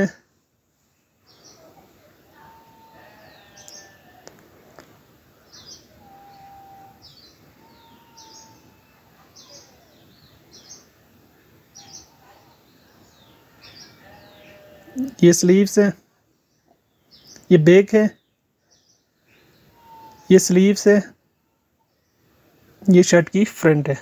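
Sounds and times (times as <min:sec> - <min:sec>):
bird chirping: 0:01.2 - 0:23.1.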